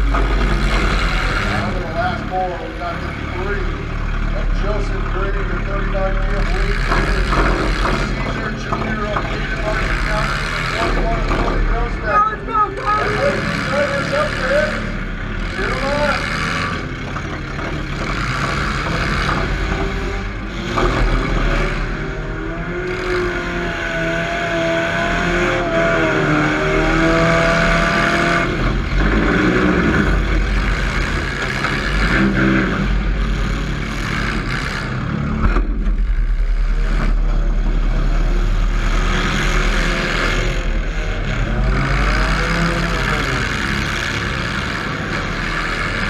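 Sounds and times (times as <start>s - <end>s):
car engine revving hard: 0.0s - 12.2s, 12.8s - 46.0s.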